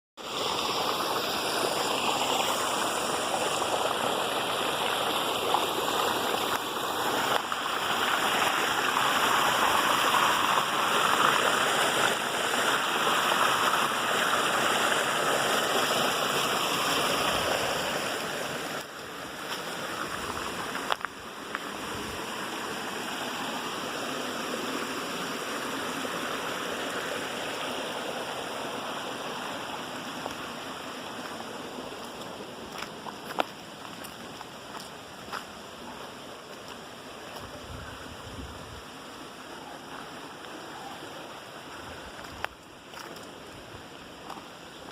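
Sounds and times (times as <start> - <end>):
water pouring down a cascade: 0.2 - 37.6.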